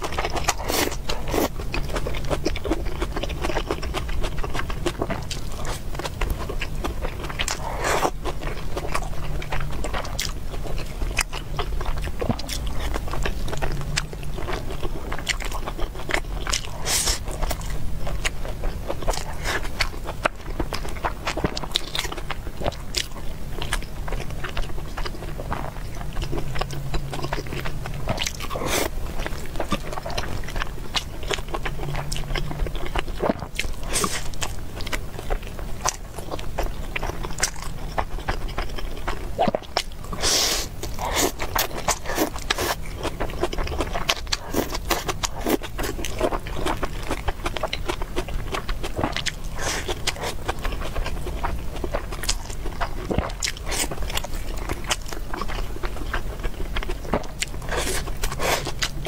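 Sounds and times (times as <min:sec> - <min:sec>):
chewing and mouth sounds: 0:00.0 - 0:59.0.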